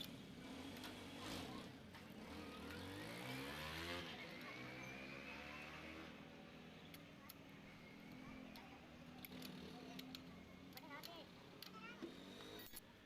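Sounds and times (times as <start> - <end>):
faint engine speeding up: 0.0 - 12.8.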